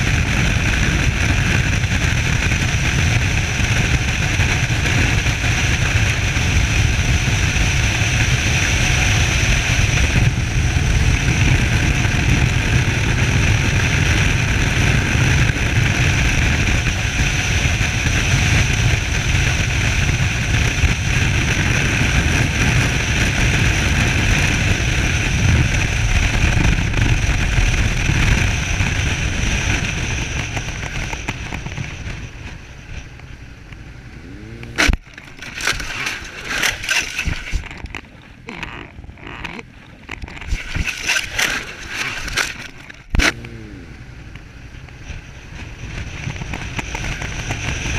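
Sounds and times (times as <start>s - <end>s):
motorcycle engine at riding speed: 0.0s - 47.9s.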